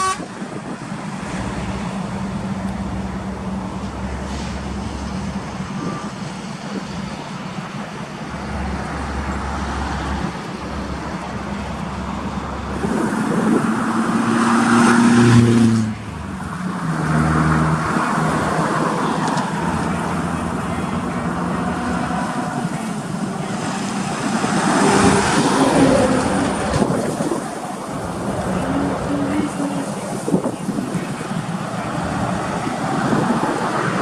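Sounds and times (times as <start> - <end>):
diesel trucks driving on road: 0.0 - 34.0.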